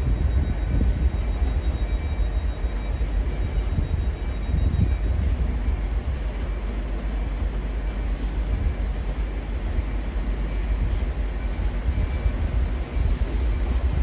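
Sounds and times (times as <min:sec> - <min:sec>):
diesel train rumbling: 0:00.0 - 0:14.0.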